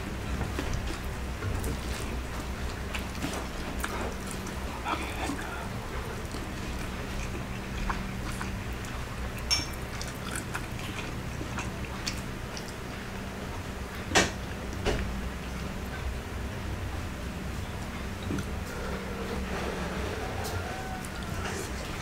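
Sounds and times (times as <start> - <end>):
man chewing food: 0.0 - 22.0
steady low hum: 0.0 - 22.0.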